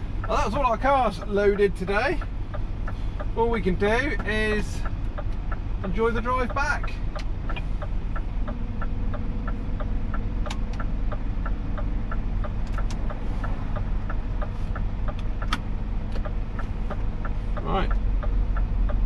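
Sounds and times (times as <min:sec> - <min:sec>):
truck diesel engine idling: 0:00.0 - 0:19.0
indicator relay ticking: 0:00.1 - 0:19.0.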